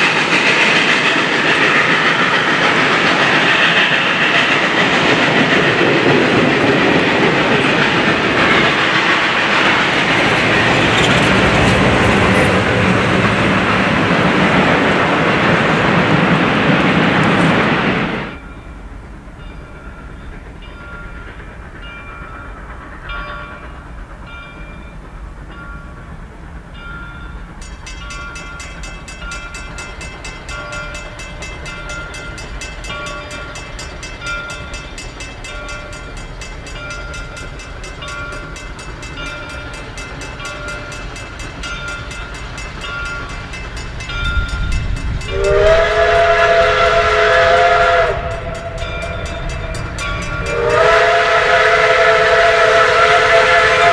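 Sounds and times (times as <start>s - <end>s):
steam locomotive running rumble: 0.0s - 53.9s.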